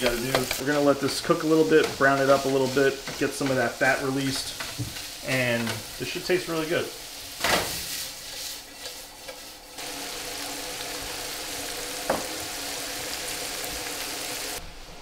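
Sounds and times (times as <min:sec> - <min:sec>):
sausage sizzling in a pan: 0:00.0 - 0:14.6.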